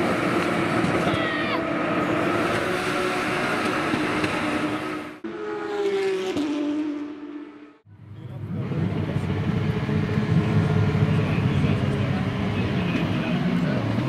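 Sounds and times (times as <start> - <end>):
low rumble of cars: 0.0 - 14.0
race car engines at speed: 0.0 - 14.0
race car passing by: 1.5 - 14.0.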